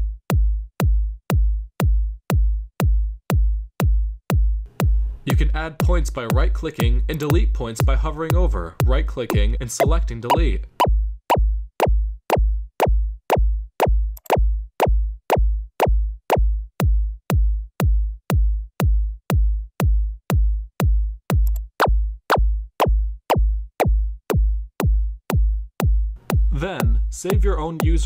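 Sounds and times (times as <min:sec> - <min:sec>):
synthesized kick drum: 0:00.0 - 0:28.0.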